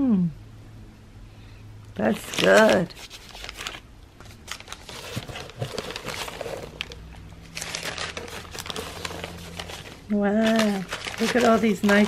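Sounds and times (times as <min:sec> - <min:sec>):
packing peanuts and paper rustling: 0:02.0 - 0:12.0.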